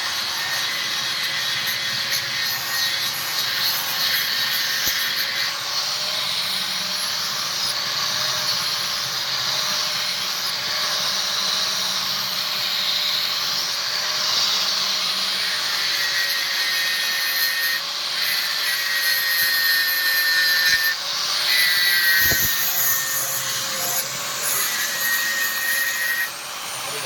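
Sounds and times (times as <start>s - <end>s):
electric grinder grinding steel: 0.0s - 27.0s.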